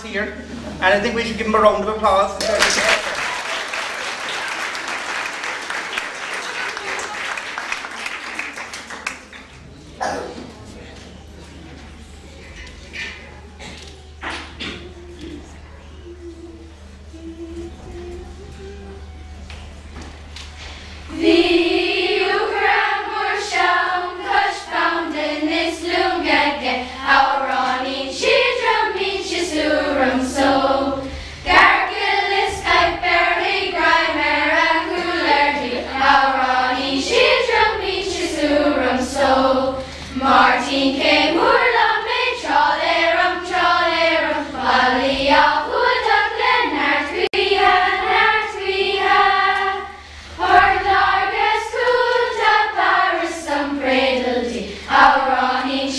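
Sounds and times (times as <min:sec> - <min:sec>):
children's choir singing: 0:02.7 - 0:55.9.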